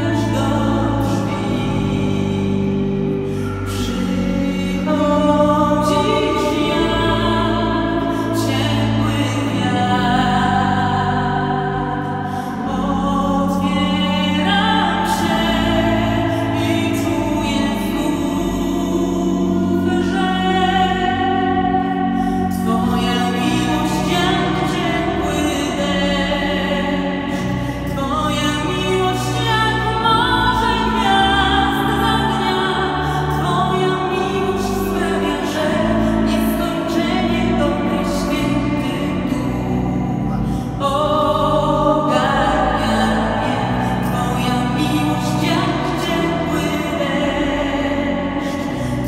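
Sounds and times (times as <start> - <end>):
woman singing: 0.0 - 49.0.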